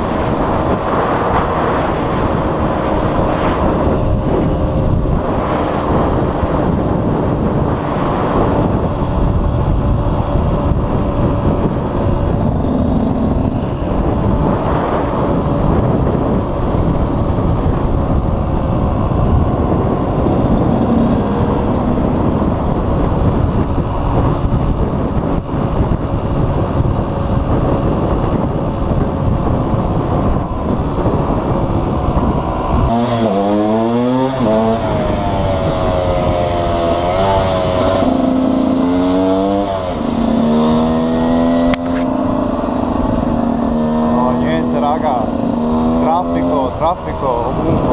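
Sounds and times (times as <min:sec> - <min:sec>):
two-stroke motorcycle engine running: 0:00.0 - 0:47.9.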